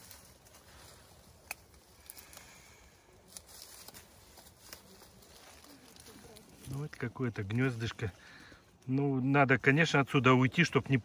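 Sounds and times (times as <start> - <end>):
leafy stems rustling: 0.0 - 11.0.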